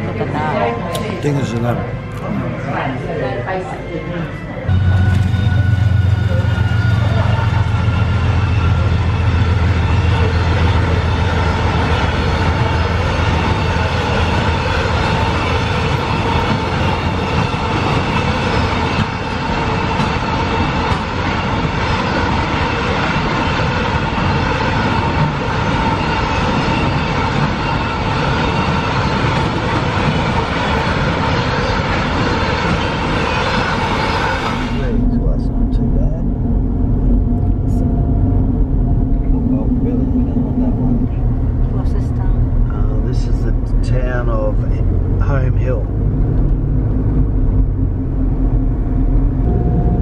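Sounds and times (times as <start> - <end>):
diesel locomotive engine hum: 0.0 - 50.0.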